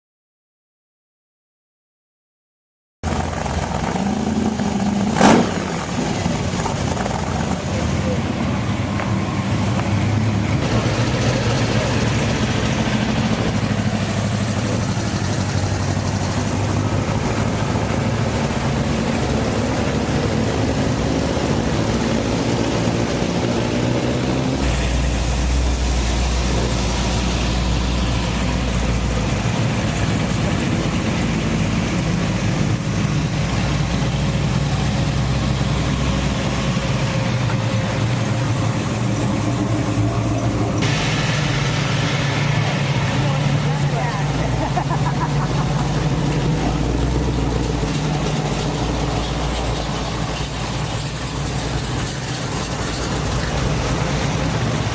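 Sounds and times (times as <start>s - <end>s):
car engines idling: 3.0s - 54.9s
deep heavy engine rumble: 3.0s - 54.9s.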